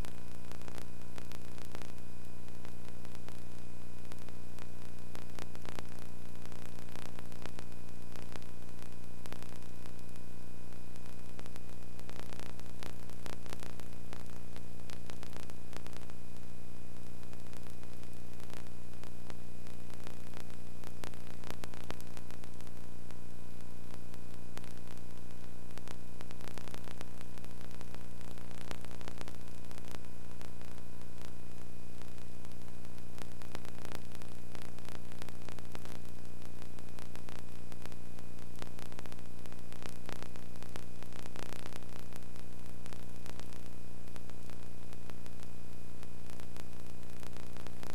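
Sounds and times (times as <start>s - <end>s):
constant hiss: 0.0s - 47.9s
crackling clicks: 0.0s - 47.9s
electrical hum: 0.0s - 47.9s.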